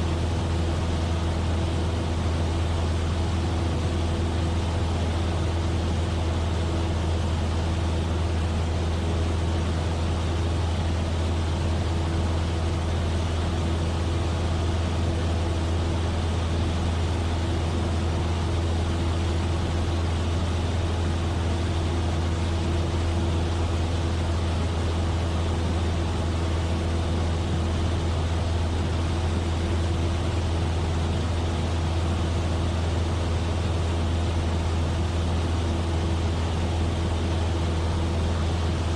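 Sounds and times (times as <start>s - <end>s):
propeller aircraft engine drone: 0.0s - 38.9s.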